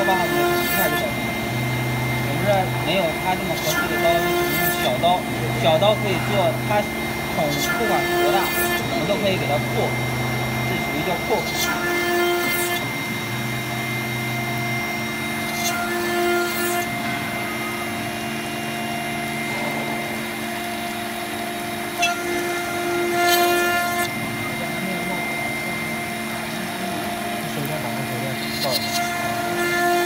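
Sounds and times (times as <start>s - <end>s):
router spindle milling metal: 0.0s - 30.0s.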